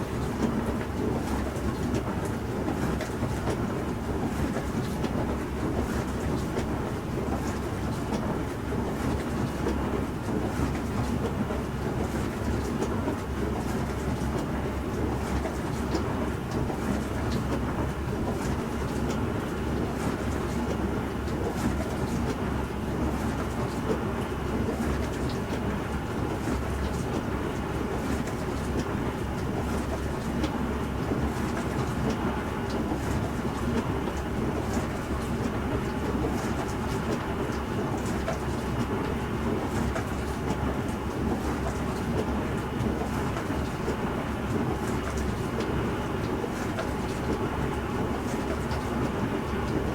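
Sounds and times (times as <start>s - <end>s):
dishwasher hum and wash noise: 0.0s - 49.9s.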